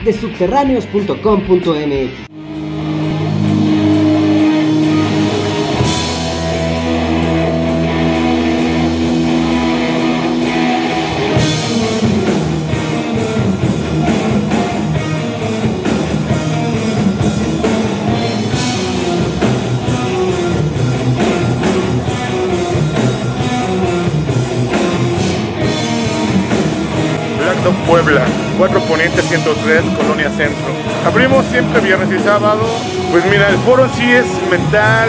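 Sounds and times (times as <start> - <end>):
rock music: 0.0 - 35.0.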